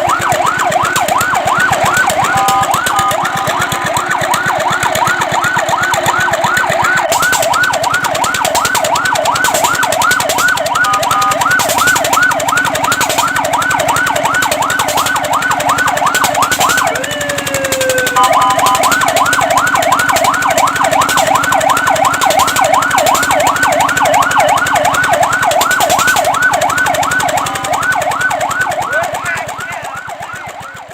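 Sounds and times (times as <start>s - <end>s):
fire truck siren yelping: 0.0s - 30.9s.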